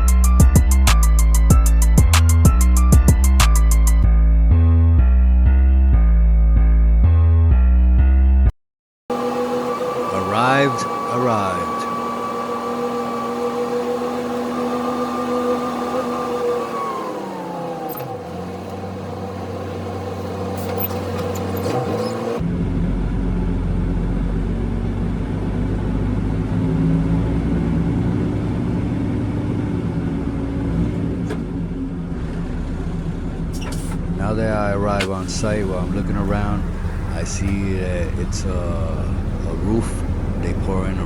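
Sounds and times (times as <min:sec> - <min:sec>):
truck diesel engine running: 0:00.0 - 0:04.2, 0:09.1 - 0:41.0.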